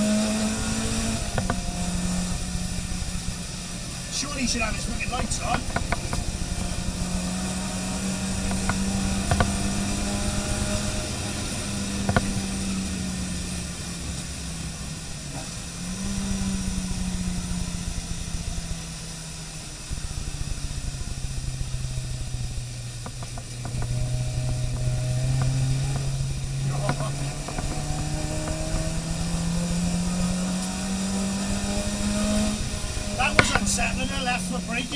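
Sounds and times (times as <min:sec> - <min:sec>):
car engine running: 0:00.0 - 0:34.9
tyres hissing on wet track: 0:00.0 - 0:34.9.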